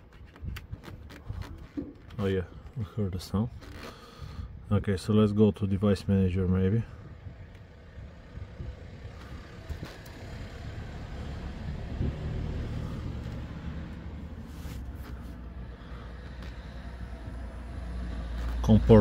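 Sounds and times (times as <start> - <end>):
low rumbling car interior noise: 0.0 - 19.0.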